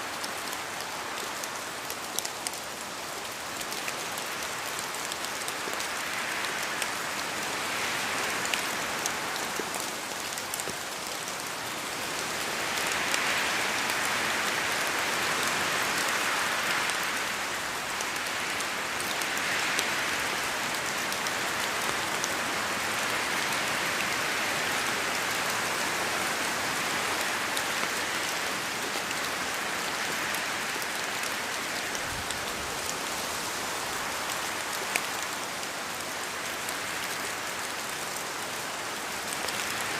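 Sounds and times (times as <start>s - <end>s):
rain falling through forest: 0.0s - 39.9s.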